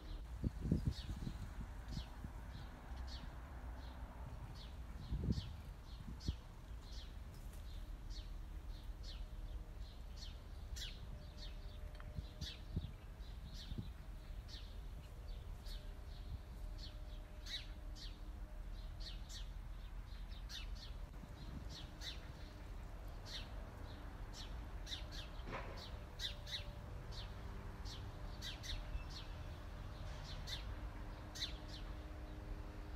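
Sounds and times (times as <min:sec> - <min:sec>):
small birds chirping: 0:00.0 - 0:32.4.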